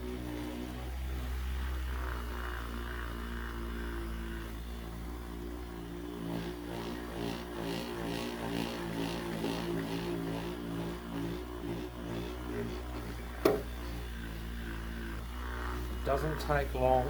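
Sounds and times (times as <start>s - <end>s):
electric polisher motor hum: 0.0s - 17.0s.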